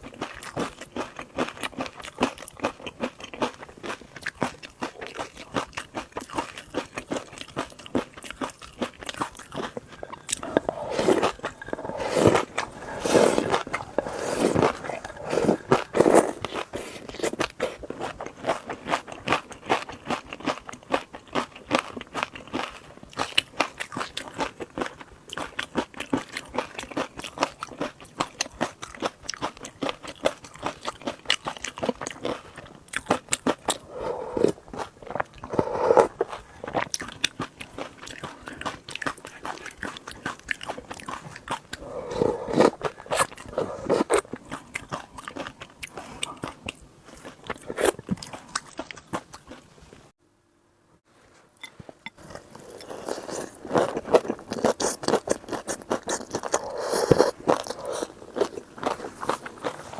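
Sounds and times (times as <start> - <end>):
crunching and chewing: 0.0 - 50.1, 52.1 - 59.9.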